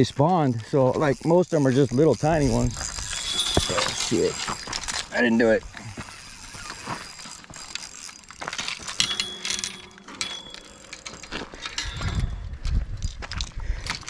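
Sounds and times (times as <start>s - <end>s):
fishing reel clicking: 0.0s - 12.3s.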